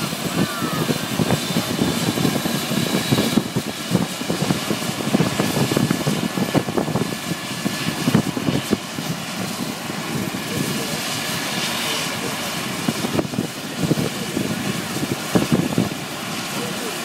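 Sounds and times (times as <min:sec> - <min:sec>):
helicopter turbine whine: 0:00.0 - 0:17.0.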